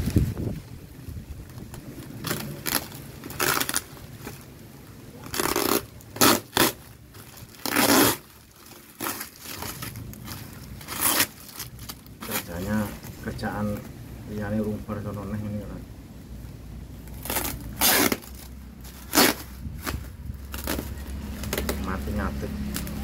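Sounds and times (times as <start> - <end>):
plastic wrap tearing and crinkling: 0.0 - 13.8, 17.0 - 23.0.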